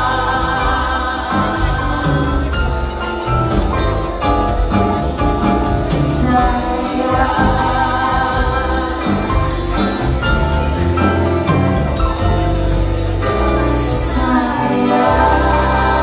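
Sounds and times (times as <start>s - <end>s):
person singing: 0.0s - 4.1s, 5.1s - 12.0s, 13.6s - 16.0s
live band playing pop: 0.0s - 16.0s.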